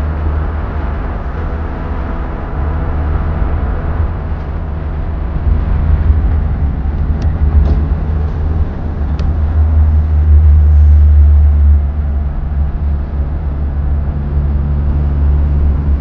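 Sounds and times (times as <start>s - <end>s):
road and wind noise in car: 0.0s - 16.0s.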